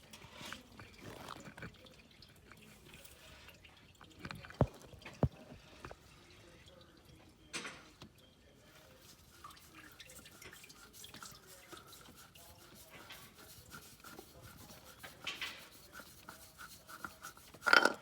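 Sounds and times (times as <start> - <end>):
oil dripping: 0.0 - 18.0.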